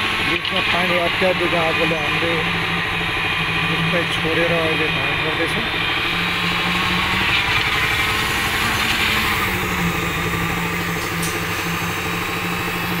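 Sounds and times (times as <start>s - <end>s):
machinery engine running: 0.0s - 13.0s.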